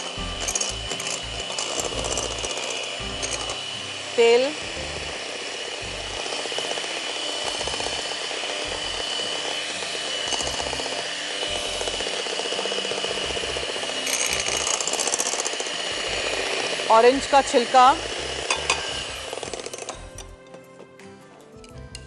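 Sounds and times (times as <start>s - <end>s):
electric hand mixer whisking: 0.0s - 20.4s.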